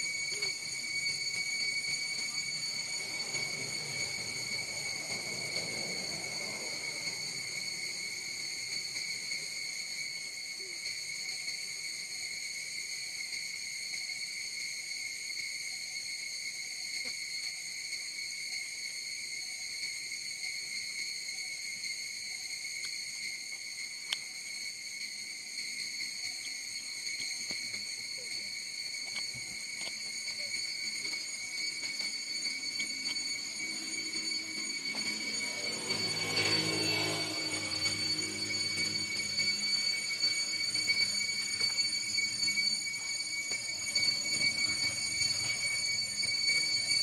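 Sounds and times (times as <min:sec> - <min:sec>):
insects droning high-pitched: 0:00.0 - 0:47.0.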